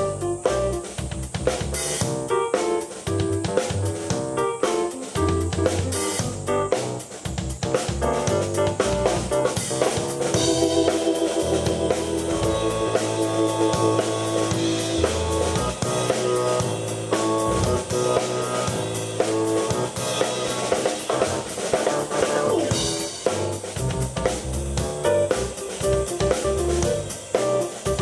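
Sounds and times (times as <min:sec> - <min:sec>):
keyboard chords: 0:00.0 - 0:01.0, 0:02.2 - 0:07.2, 0:08.1 - 0:28.0
drum beat: 0:00.0 - 0:28.0.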